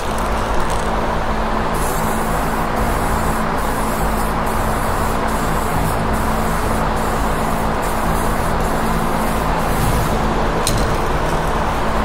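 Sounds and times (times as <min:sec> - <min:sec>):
spray-paint can hissing: 0:00.0 - 0:01.1, 0:01.7 - 0:12.0
steady low hum: 0:00.0 - 0:12.0.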